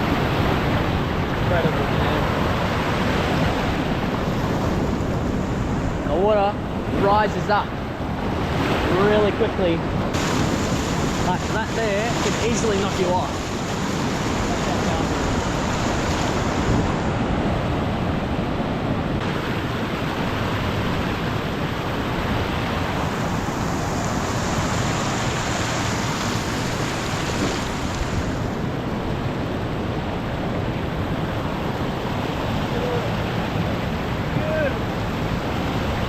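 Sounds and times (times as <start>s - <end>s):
ocean surf over rocks: 0.0s - 36.0s.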